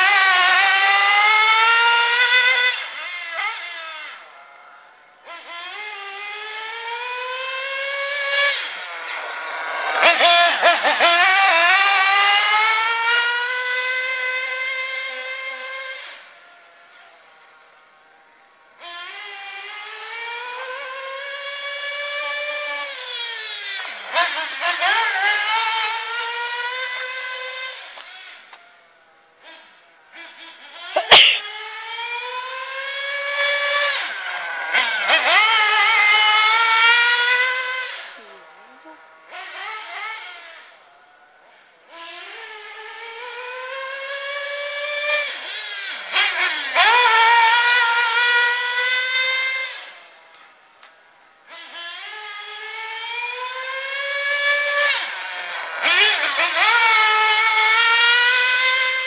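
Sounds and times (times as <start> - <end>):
small nitro engine screaming: 0.0 - 59.0.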